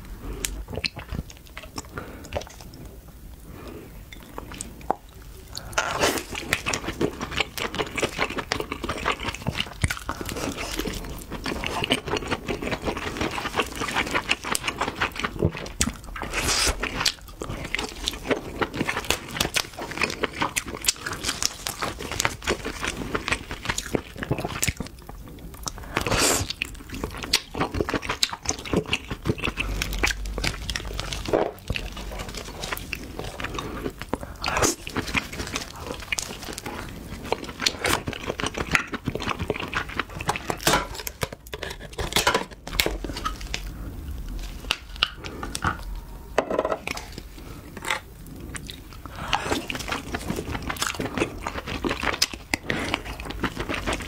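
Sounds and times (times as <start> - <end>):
wet chewing: 0.0 - 3.0, 3.6 - 46.1, 46.8 - 54.0.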